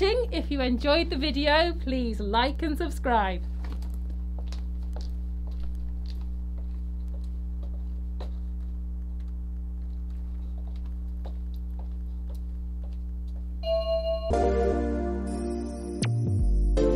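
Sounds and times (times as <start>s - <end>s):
low electrical hum: 0.0s - 14.5s.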